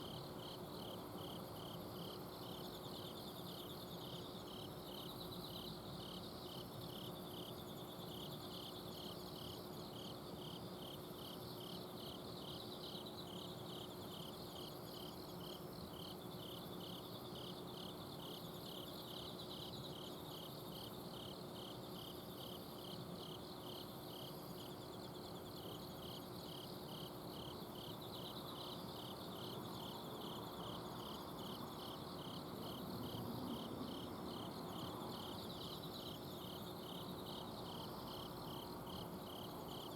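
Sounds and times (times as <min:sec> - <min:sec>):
crickets chirping: 0:00.0 - 0:39.9
crickets trilling: 0:00.0 - 0:39.9.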